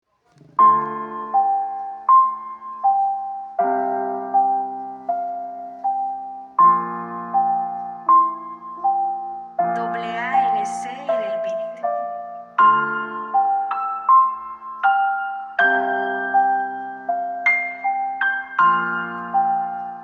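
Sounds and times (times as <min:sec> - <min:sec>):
slow piano music: 0:00.4 - 0:20.0.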